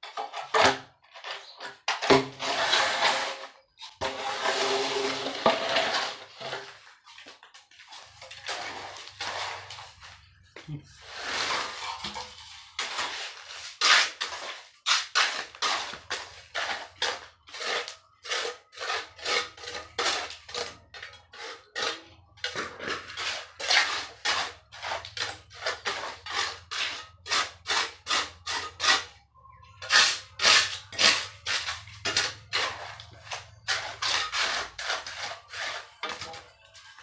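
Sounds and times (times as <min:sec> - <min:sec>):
trowel scraping mortar on concrete: 0:00.1 - 0:10.2, 0:10.9 - 0:29.2, 0:29.8 - 0:37.0.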